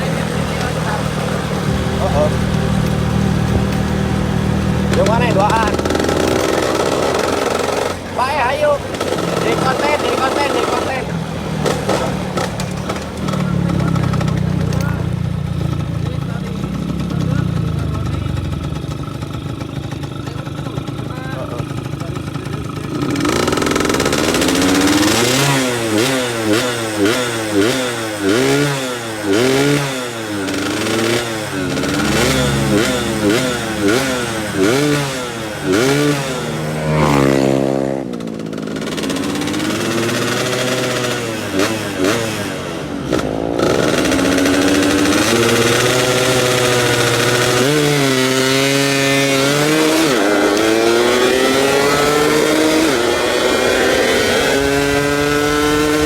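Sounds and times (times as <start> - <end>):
moped engine revving: 0.0 - 56.0.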